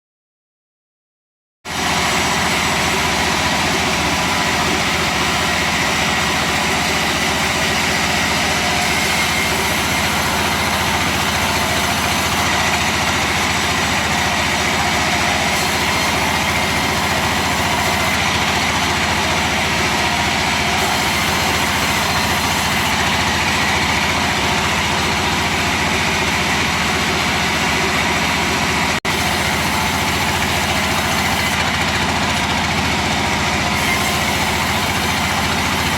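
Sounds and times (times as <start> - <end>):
wood-cutting machine engine running: 1.7 - 35.9.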